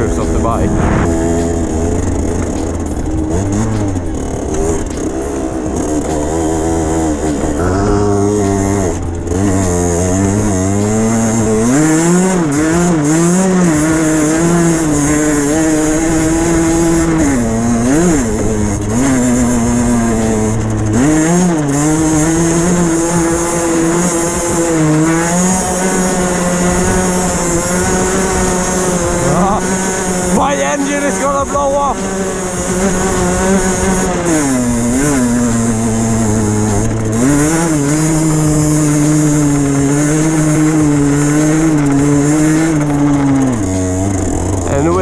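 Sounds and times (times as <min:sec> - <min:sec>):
two-stroke engine revving under load: 0:00.0 - 0:45.0.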